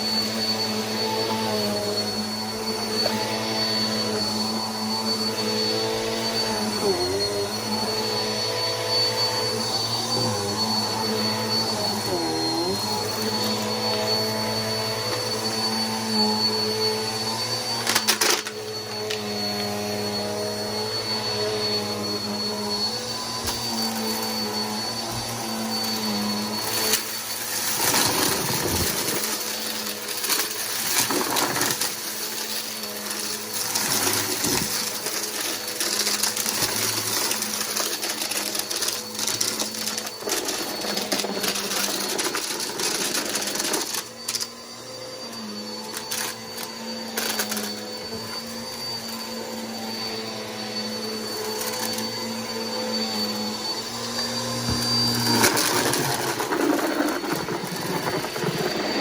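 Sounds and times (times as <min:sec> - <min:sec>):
upright vacuum cleaner whine: 0:00.0 - 0:59.0.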